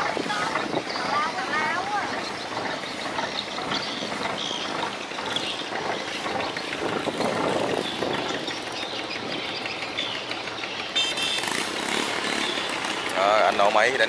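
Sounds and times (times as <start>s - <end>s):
boat diesel engine running: 0.0s - 14.0s.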